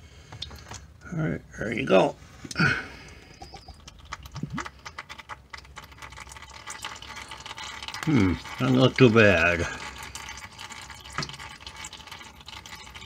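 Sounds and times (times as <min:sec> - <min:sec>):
oil dripping into pan: 0:00.1 - 0:01.0, 0:02.5 - 0:13.0.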